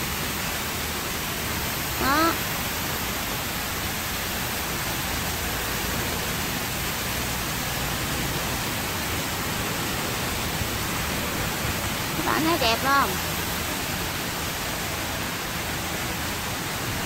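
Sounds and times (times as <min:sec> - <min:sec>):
waterfall cascading into pool: 0:00.0 - 0:17.0.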